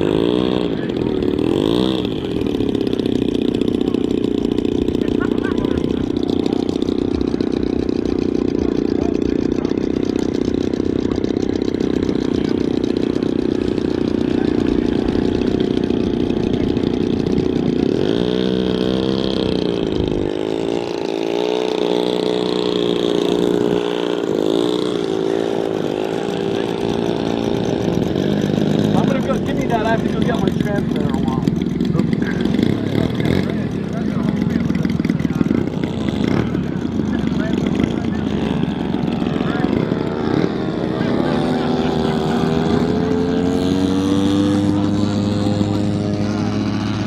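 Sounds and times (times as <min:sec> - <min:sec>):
model plane engine droning: 0:00.0 - 0:47.0.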